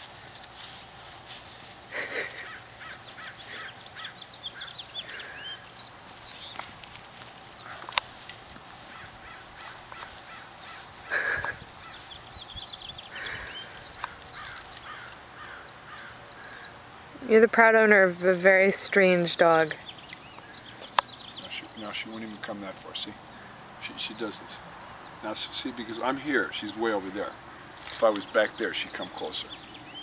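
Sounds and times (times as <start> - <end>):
harsh bird calls: 0.0 - 8.2, 8.8 - 30.0
birds chirping: 0.0 - 30.0.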